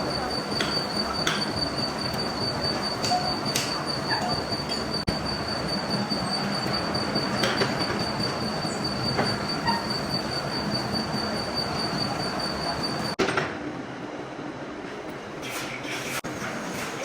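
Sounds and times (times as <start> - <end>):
machinery running with high whine: 0.0 - 15.3.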